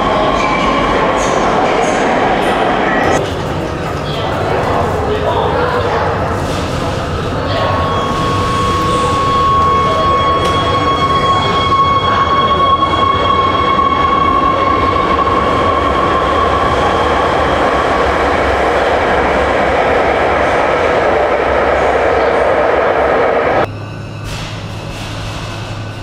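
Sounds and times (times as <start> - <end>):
train rushing rumble: 0.0 - 26.0.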